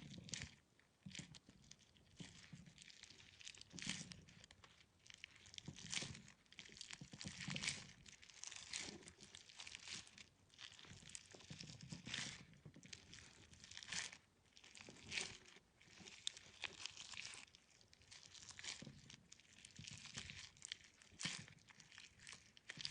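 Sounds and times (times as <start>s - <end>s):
jelly squishing and crackling: 0.0s - 22.9s.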